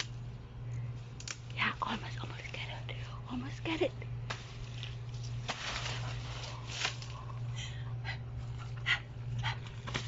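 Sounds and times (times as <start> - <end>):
leaves rustling: 0.0 - 10.0
steady low hum: 0.0 - 10.0.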